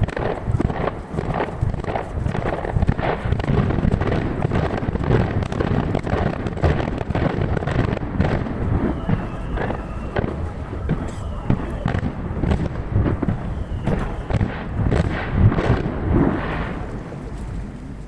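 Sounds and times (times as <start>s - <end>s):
distant fireworks booms and crackles: 0.0s - 18.0s.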